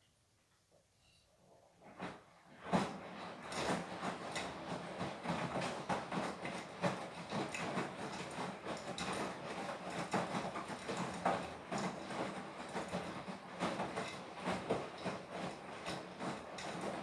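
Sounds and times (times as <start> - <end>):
laundry tumbling in drum: 1.8 - 17.0
washing machine motor hum: 1.8 - 17.0.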